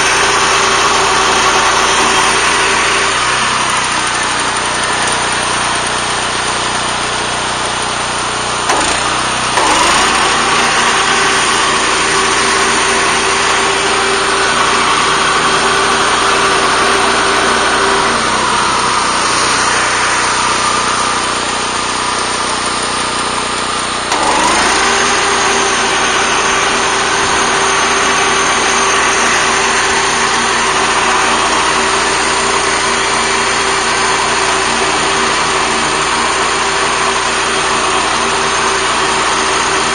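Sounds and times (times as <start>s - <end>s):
mower cutting grass: 0.0s - 39.9s
walk-behind tractor engine running: 0.0s - 39.9s.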